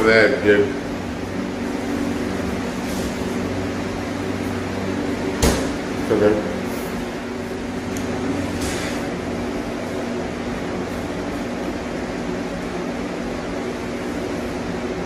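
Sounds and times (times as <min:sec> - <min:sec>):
appliance humming: 0:00.0 - 0:15.0.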